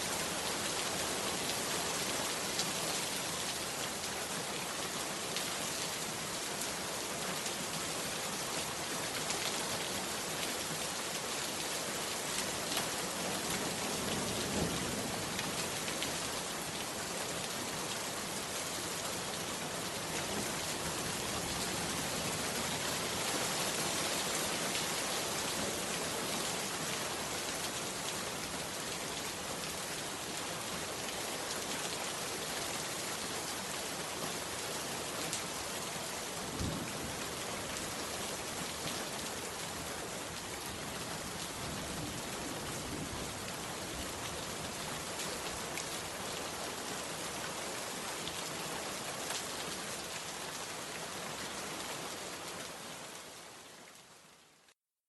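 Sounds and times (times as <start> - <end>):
heavy rain on a hut roof: 0.0 - 54.8.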